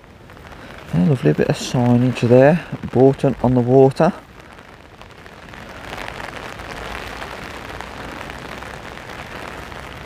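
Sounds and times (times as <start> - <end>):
rain pattering on umbrella: 0.0 - 10.0.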